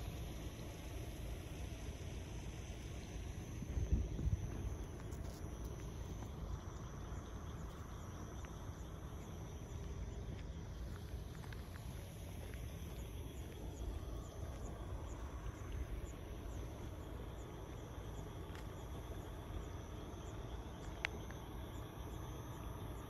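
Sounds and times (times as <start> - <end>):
insects chirping: 0.0 - 23.0
low outdoor rumble: 0.0 - 23.0.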